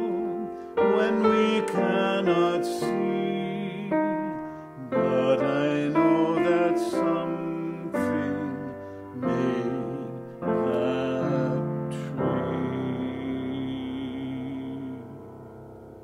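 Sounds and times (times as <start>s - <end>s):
hymn on piano: 0.0s - 16.0s.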